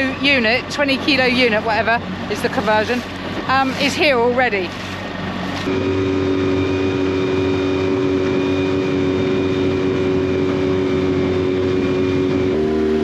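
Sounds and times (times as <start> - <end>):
boat hissing through water: 0.0 - 13.0
outboard motor running: 0.0 - 13.0.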